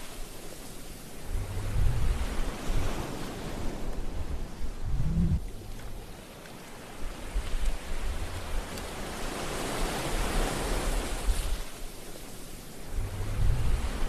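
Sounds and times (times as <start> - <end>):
ocean surf breaking on beach: 0.0 - 14.0.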